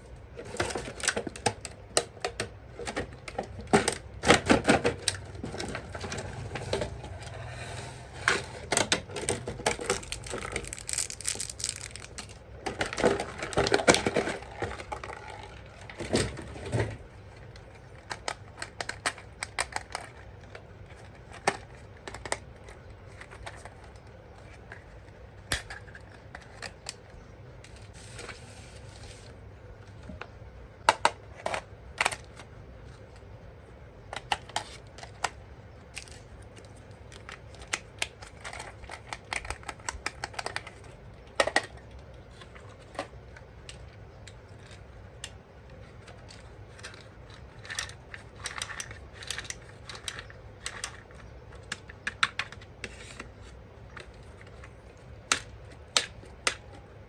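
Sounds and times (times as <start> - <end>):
faint room hum: 0.0 - 57.0.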